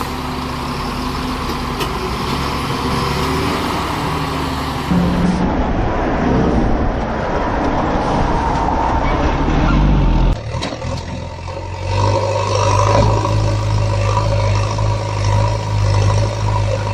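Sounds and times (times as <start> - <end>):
truck engine running: 0.0 - 7.4, 9.4 - 16.9.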